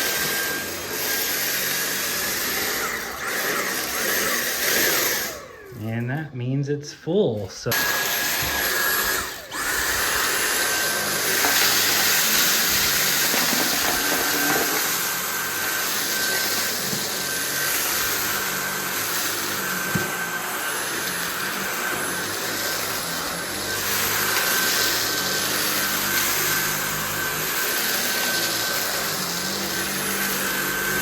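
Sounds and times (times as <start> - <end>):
vacuum cleaner on a rug: 0.0 - 31.0.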